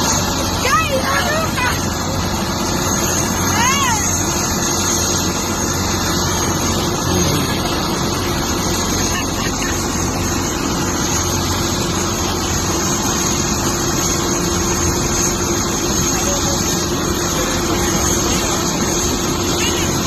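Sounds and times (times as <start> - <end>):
helicopter running: 0.0 - 20.0.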